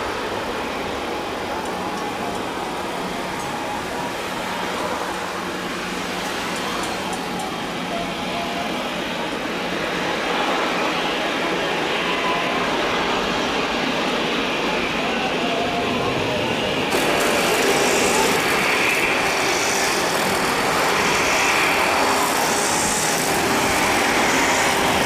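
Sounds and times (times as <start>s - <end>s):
jet engines on landing: 0.0s - 25.0s.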